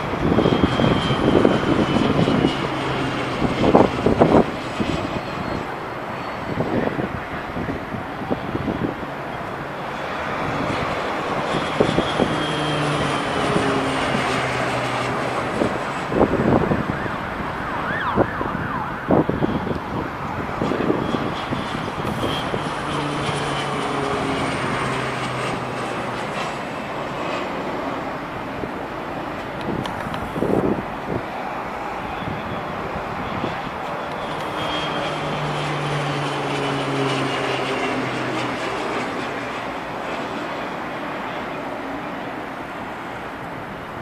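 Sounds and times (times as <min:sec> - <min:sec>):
propeller plane flying past: 0:00.0 - 0:44.0
wind gusts on microphone: 0:00.0 - 0:44.0.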